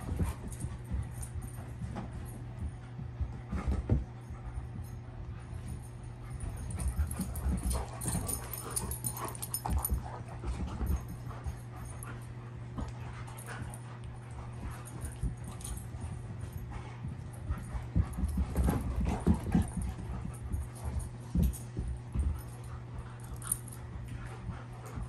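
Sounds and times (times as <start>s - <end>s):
dogs play noises: 0.0s - 25.0s
dogs scuffling on carpet: 0.0s - 25.0s.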